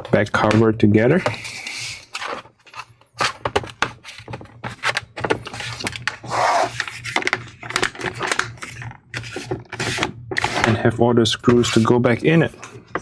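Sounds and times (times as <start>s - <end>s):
plastic scraping rub: 0.4s - 13.0s.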